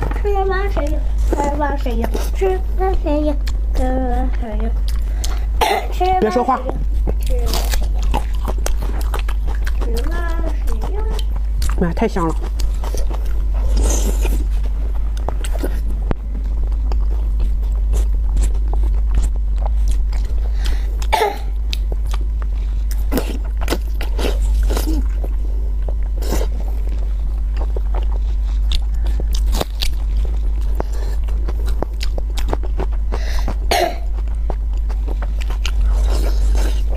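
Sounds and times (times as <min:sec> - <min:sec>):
steady low hum: 0:00.0 - 0:36.9
wet mouth chewing: 0:03.4 - 0:05.5, 0:06.4 - 0:36.9.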